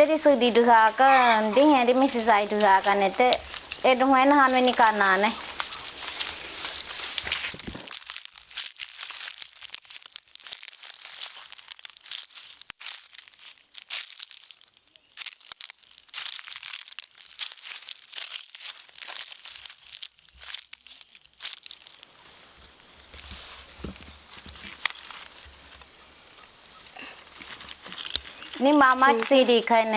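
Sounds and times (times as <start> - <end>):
rustling and crackling: 0.0 - 29.9.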